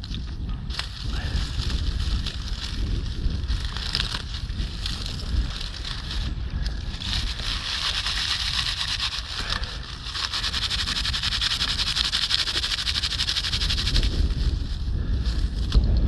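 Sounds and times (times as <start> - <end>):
dry bark crackling rustle: 0.0 - 15.9
wind rumble on microphone: 0.0 - 16.0.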